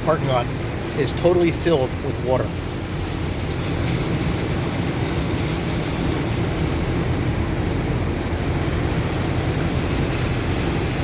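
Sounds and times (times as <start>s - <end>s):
low engine rumble: 0.0s - 11.0s
rain beating on truck: 0.0s - 11.0s
tyres through standing water: 0.0s - 11.0s.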